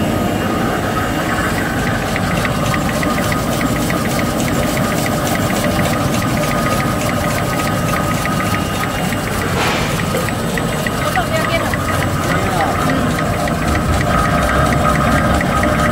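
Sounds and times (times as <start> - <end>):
machine humming with faint whine: 0.0 - 15.9
fast even clicking: 1.2 - 15.9.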